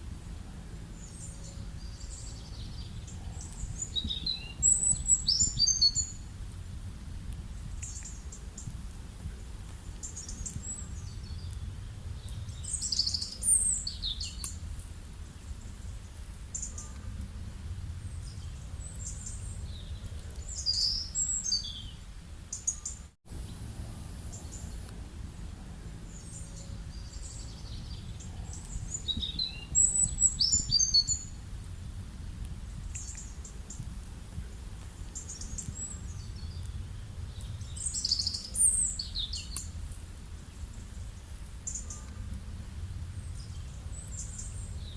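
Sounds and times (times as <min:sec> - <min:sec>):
steady low rumble: 0:00.0 - 0:44.9
birds singing: 0:00.2 - 0:06.3, 0:07.6 - 0:08.8, 0:09.7 - 0:14.6, 0:15.2 - 0:17.2, 0:18.0 - 0:23.6, 0:24.3 - 0:31.4, 0:32.8 - 0:33.9, 0:34.9 - 0:39.8, 0:40.4 - 0:42.4, 0:43.2 - 0:44.9.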